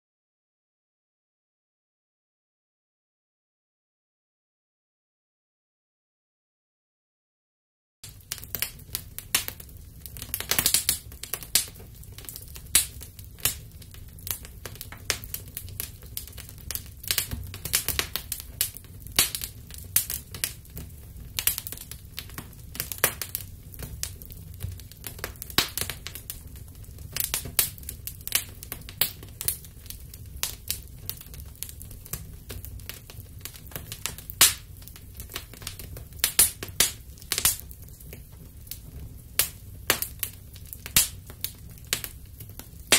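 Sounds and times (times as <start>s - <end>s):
fire crackling and popping: 8.0s - 42.9s
low fire rumble: 8.0s - 42.9s.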